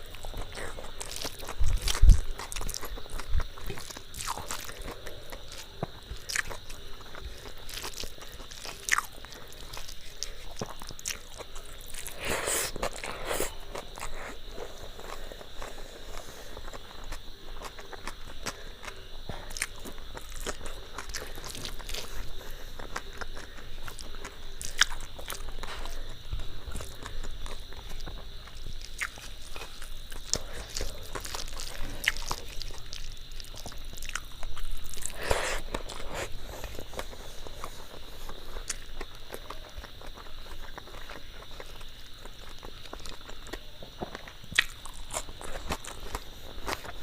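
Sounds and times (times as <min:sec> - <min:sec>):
person chewing food: 0:00.0 - 0:47.0.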